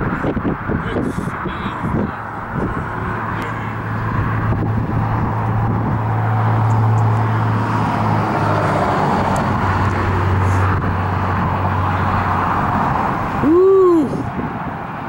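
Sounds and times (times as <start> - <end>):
traffic passing on bridge: 0.0 - 15.0.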